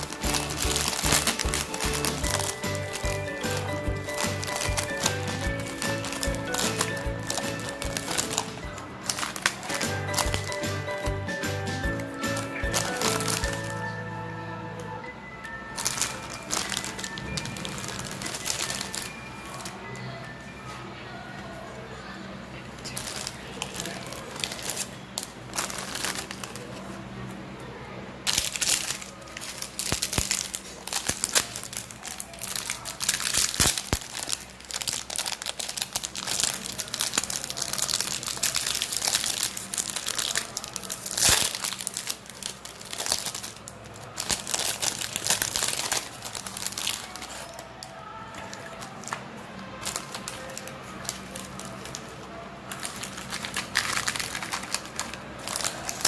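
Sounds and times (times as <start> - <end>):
plastic wrapper crinkling: 0.0 - 13.9, 15.8 - 20.1, 22.8 - 27.0, 28.3 - 49.2, 49.8 - 56.0.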